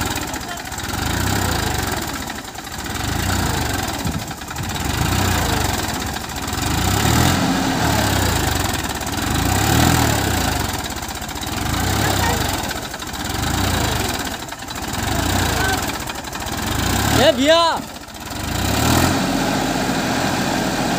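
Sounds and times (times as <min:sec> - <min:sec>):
tractor churning through mud: 0:00.0 - 0:20.9
tractor diesel engine under load: 0:00.0 - 0:20.9.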